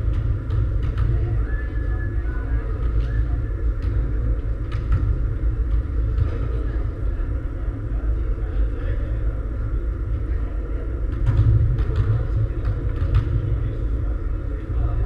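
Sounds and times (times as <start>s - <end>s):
faint indistinct voices: 0.0s - 15.0s.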